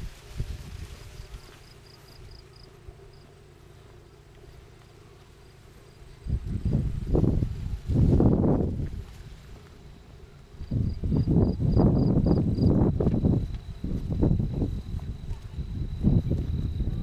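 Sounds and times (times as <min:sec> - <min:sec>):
wind rumbling on microphone: 0:00.0 - 0:02.6, 0:05.9 - 0:17.0
insect chirping: 0:01.2 - 0:17.0.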